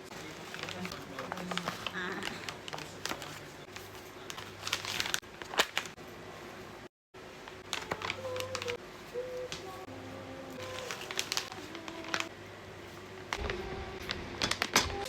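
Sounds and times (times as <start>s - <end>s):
crinkling packaging wrap: 0.1s - 6.0s, 7.4s - 15.0s.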